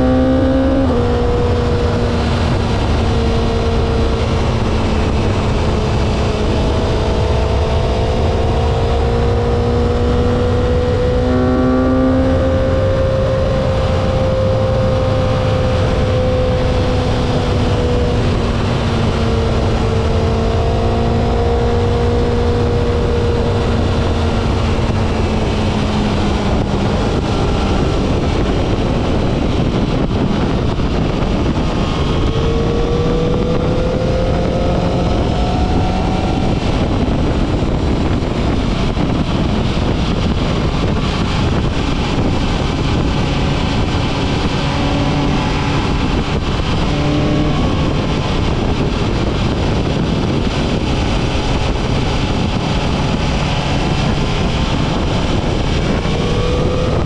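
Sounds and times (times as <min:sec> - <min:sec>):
engine accelerating: 0:00.0 - 0:57.0
heavy wind rush: 0:00.0 - 0:57.0.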